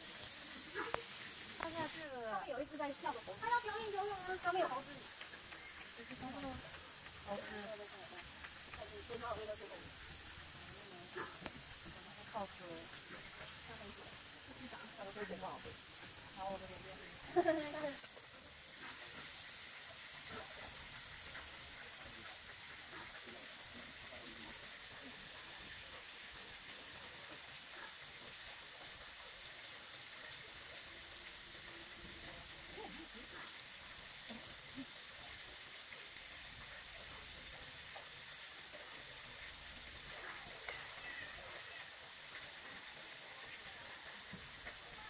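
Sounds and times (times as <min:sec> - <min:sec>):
background hiss: 0:00.0 - 0:45.0.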